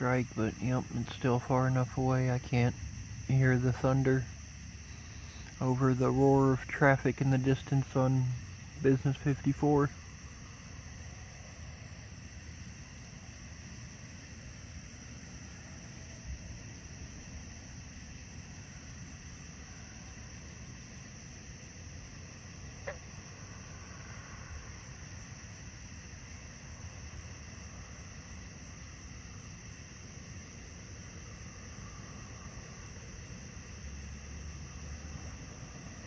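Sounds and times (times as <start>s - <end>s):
distant road traffic: 0.0s - 36.0s
insects chirring: 0.0s - 36.0s.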